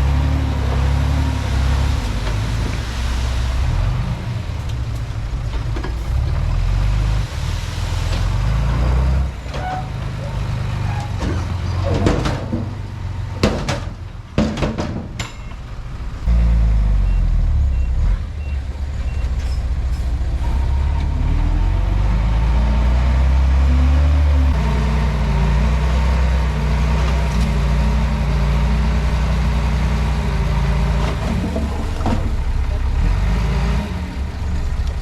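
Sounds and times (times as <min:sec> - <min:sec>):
bulldozer diesel engine: 0:00.0 - 0:35.0.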